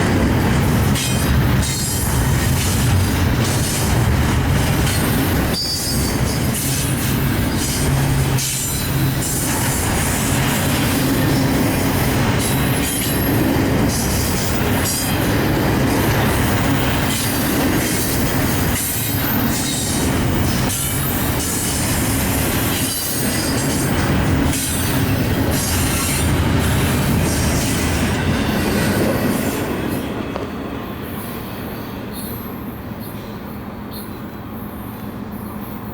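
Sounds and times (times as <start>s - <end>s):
train wheel clacks: 0.0s - 30.5s
freight train wheels rumbling: 0.0s - 35.9s.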